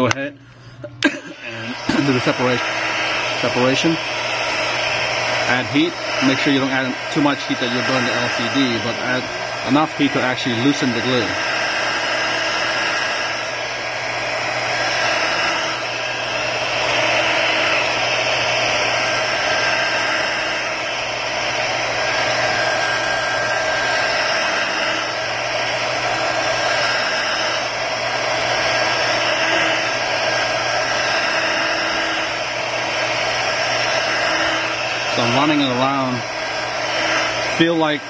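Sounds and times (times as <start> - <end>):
heat gun blowing air: 0.9 - 38.0.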